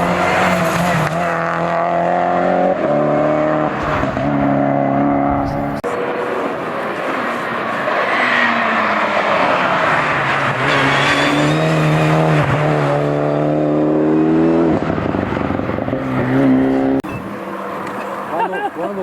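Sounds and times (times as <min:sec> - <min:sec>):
race car accelerating: 0:00.0 - 0:19.0.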